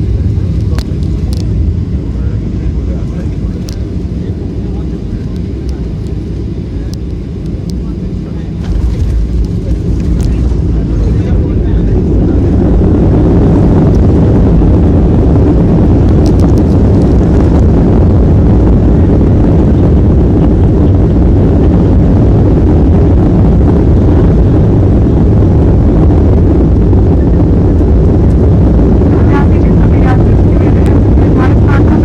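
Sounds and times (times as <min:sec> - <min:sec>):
airliner engine roar: 0:00.0 - 0:32.0.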